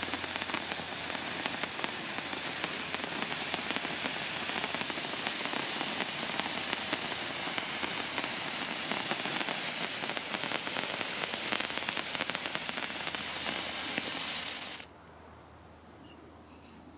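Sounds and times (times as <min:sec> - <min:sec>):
spark fountain crackling hiss: 0:00.0 - 0:14.9.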